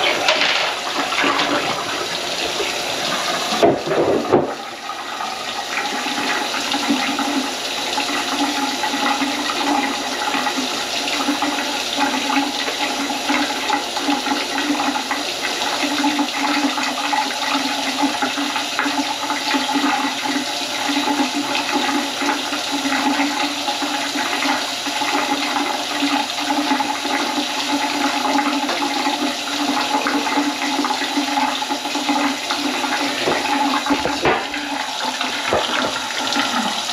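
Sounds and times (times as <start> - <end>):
water running into sink drain: 0.0 - 36.9.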